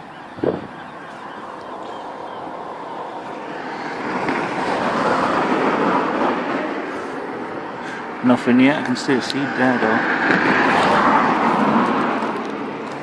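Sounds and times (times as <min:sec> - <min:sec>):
vehicle passing close by: 0:00.4 - 0:13.0.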